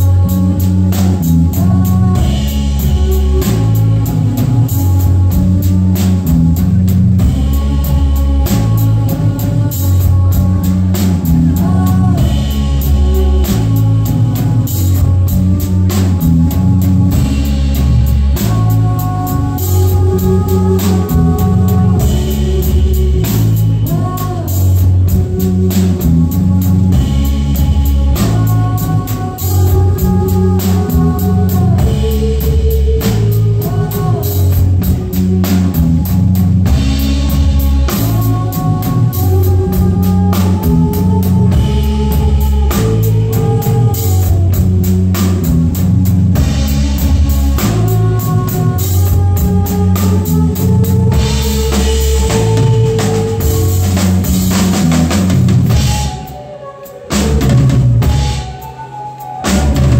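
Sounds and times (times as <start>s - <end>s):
drum kit: 0.0s - 59.9s
flute melody: 0.0s - 59.9s.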